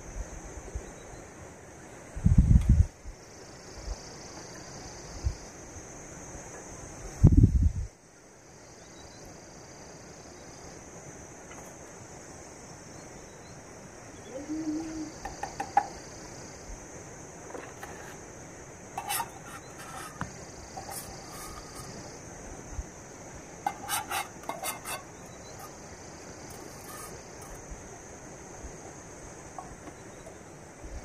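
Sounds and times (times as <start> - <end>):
steady high hiss: 0.0 - 31.0.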